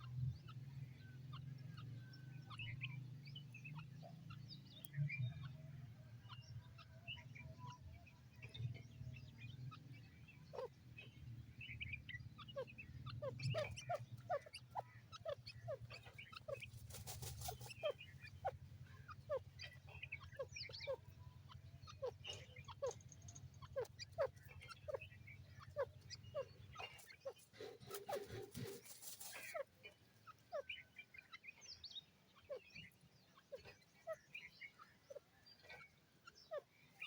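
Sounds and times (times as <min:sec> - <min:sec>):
francolins calling: 0:00.0 - 0:37.0.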